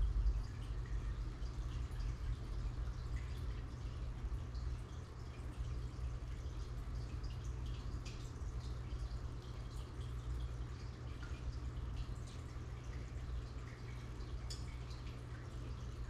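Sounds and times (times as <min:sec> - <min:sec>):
aquarium water bubbling: 0:00.0 - 0:16.0
pump hum: 0:00.0 - 0:16.0.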